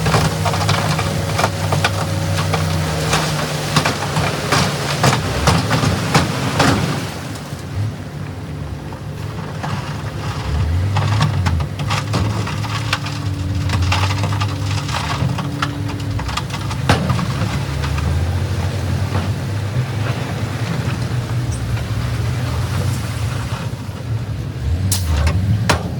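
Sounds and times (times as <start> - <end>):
rocks cracking and clattering: 0.0 - 7.8, 8.8 - 23.7
diesel engine under load: 0.0 - 25.9.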